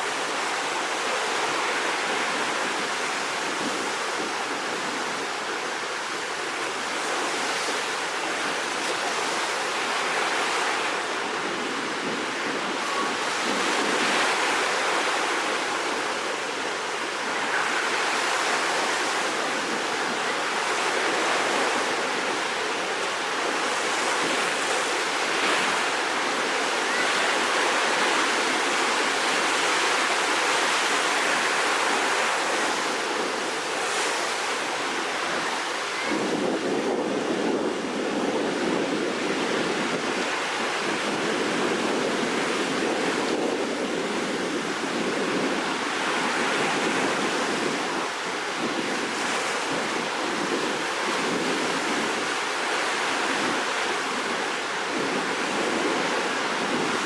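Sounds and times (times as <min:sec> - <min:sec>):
rough sea surf breaking: 0:00.0 - 0:57.0.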